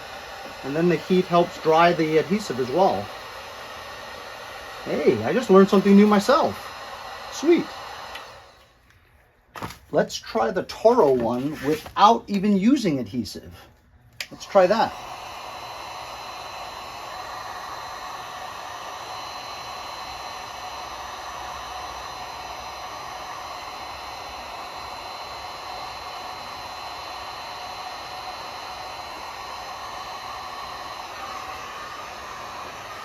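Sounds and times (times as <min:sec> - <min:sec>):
heat gun blowing with whine: 0:00.0 - 0:08.8, 0:14.2 - 0:33.0.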